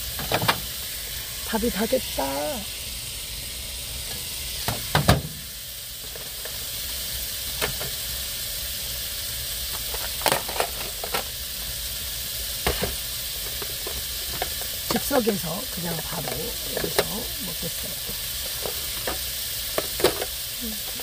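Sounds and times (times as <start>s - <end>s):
meat sizzling in a frying pan: 0.0s - 21.0s.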